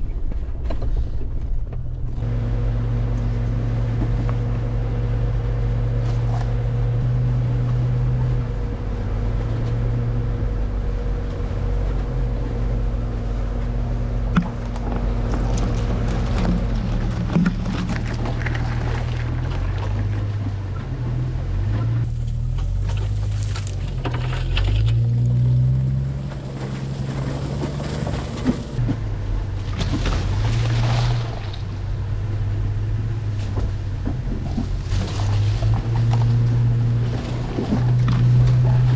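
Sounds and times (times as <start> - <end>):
car engine running: 0.0 - 38.9
wind and road noise: 0.0 - 38.9.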